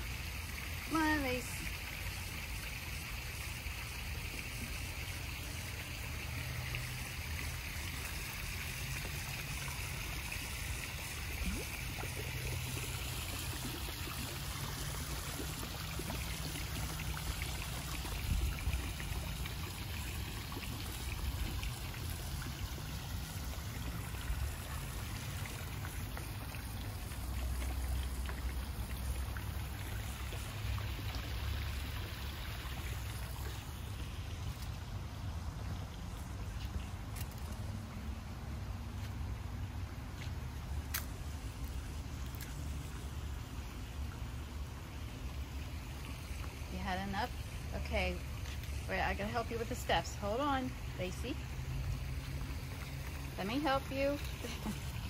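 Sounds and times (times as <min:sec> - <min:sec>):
small waterfall rushing and trickling: 0:00.0 - 0:55.0.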